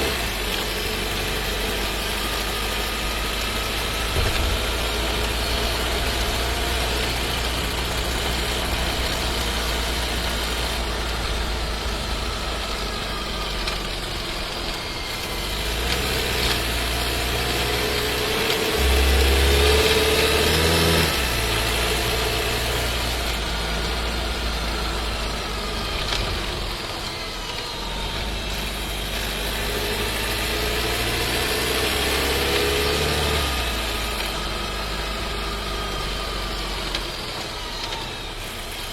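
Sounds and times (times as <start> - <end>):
car engine from inside cabin: 0.0 - 38.9.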